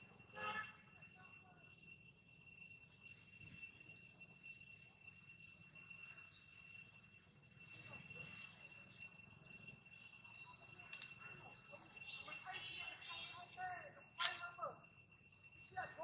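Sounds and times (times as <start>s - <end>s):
high insect buzz: 0.0s - 16.0s
short high insect chirp: 0.0s - 16.0s.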